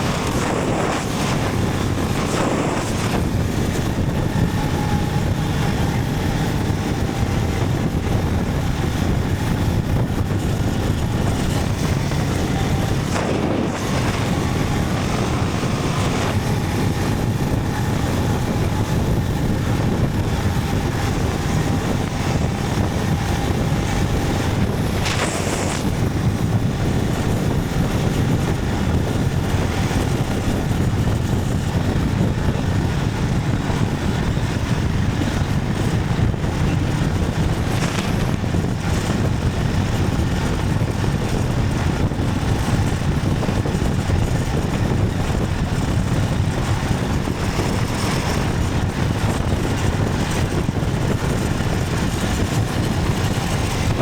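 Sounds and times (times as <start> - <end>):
motorcycle engine rumble: 0.0 - 54.0
wind on microphone: 0.0 - 54.0.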